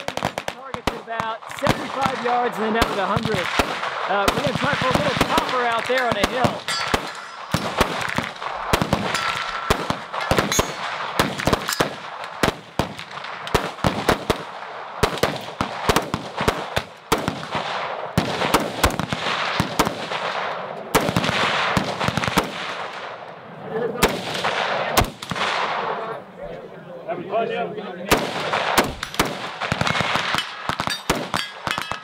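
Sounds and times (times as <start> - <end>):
rifle gunfire: 0.0 - 23.1, 24.0 - 26.0, 28.1 - 32.0.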